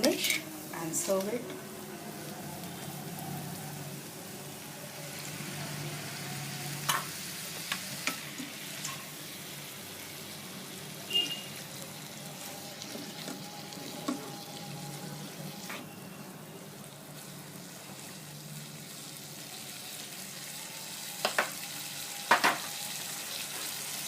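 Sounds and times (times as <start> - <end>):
potatoes sizzling in oil: 0.0 - 24.0.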